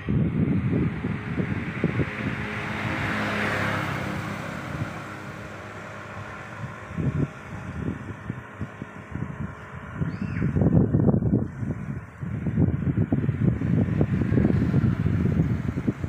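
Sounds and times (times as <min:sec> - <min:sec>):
motor vehicle passing: 0:00.0 - 0:16.0
wind rumbling on microphone: 0:00.0 - 0:16.0.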